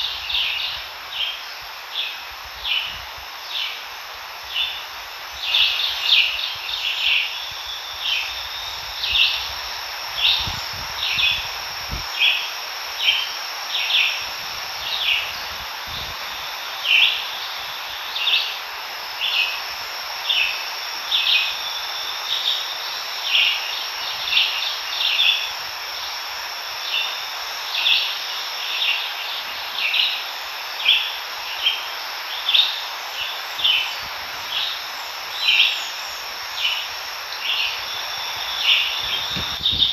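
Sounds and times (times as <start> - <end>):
high-pitched insect drone: 0.0 - 39.9
insects calling: 0.0 - 39.9.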